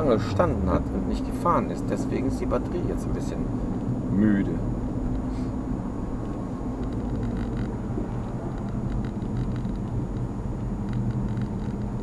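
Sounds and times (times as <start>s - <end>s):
car cabin drone: 0.0s - 12.0s.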